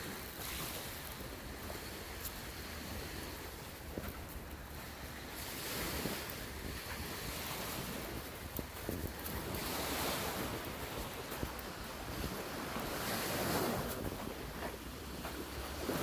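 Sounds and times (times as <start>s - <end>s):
wind buffeting microphone: 0.0s - 16.0s
footsteps on gravel: 0.1s - 16.0s.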